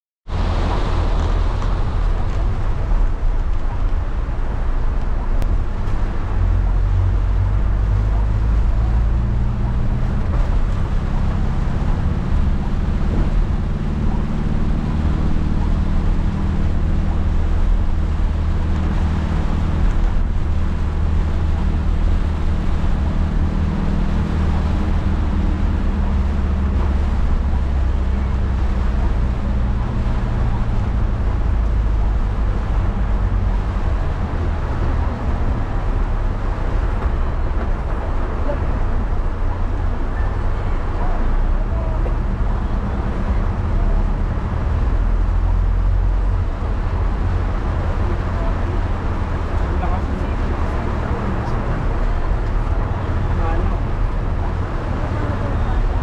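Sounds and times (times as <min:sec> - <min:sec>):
van engine and road drone: 0:00.2 - 0:56.0.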